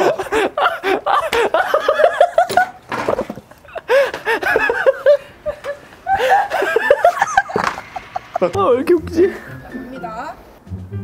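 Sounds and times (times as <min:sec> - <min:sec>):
men laughing hard: 0:00.0 - 0:09.6.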